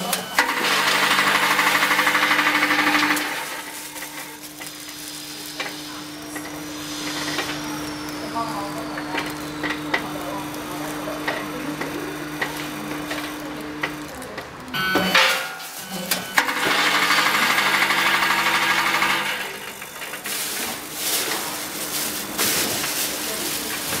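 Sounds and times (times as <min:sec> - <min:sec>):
vibratory feeder buzzing: 0:00.0 - 0:24.0.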